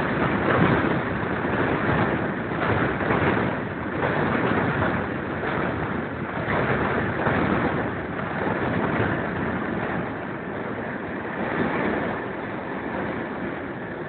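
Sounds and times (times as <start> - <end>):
train running noise: 0.0 - 14.0
wind blowing across microphone: 0.0 - 14.0.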